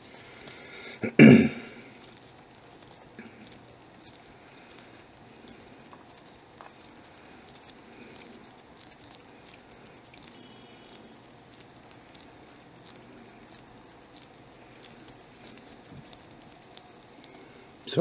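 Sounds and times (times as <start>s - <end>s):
fingers rubbing clay: 1.9s - 18.0s.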